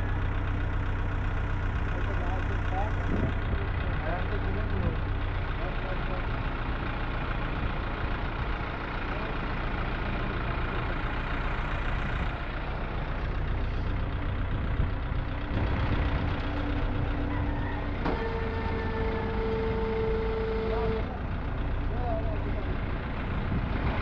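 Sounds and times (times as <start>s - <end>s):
truck diesel engine idling: 0.0s - 24.0s.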